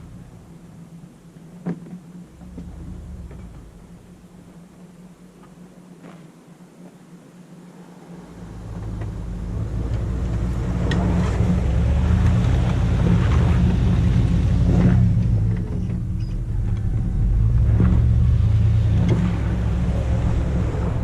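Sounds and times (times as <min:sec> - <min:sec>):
truck engine droning: 0:00.0 - 0:01.4, 0:02.2 - 0:05.6, 0:08.0 - 0:21.0.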